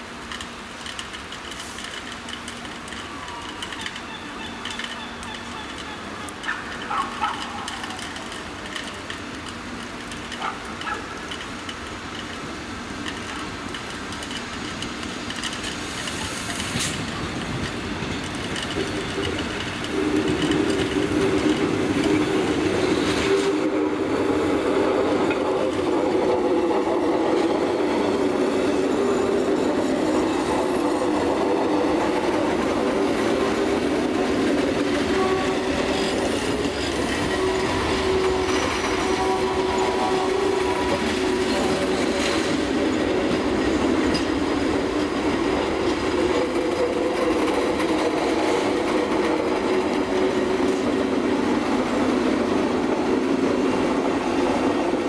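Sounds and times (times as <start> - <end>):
train moving with droning tones: 0.0 - 55.0.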